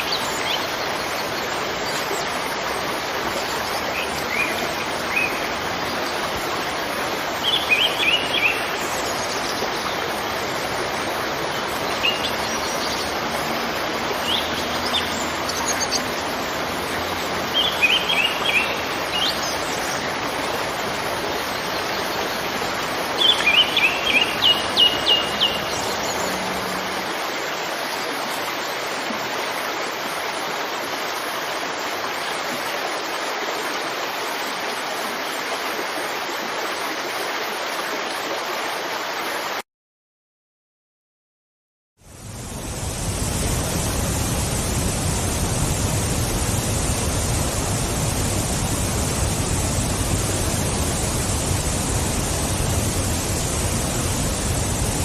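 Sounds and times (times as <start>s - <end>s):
waterfall rushing: 0.0s - 39.6s, 42.0s - 55.0s.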